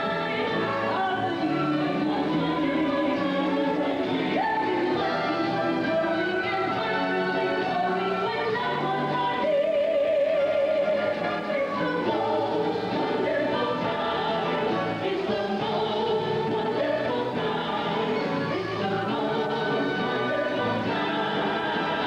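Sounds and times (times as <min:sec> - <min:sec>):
group of people singing: 0:00.0 - 0:22.0
musical accompaniment: 0:00.0 - 0:22.0.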